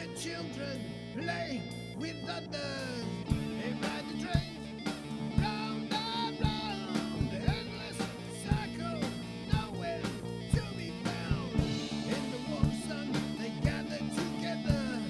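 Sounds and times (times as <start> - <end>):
rock song: 0.0 - 15.0.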